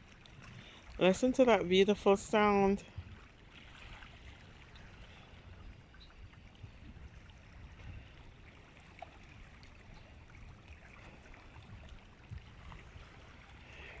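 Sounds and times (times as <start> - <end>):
water lapping and trickling: 0.0 - 14.0
wind rumble on microphone: 0.0 - 14.0.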